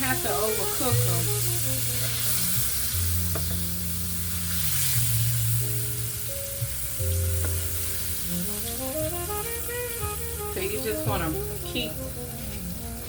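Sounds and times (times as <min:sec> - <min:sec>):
background music with low bass: 0:00.0 - 0:13.0
chicken frying in oil: 0:00.0 - 0:13.0.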